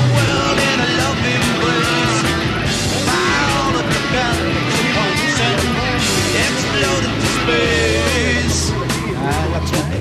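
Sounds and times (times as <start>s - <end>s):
person singing: 0.0s - 8.9s
rock music with electric guitar: 0.0s - 10.0s.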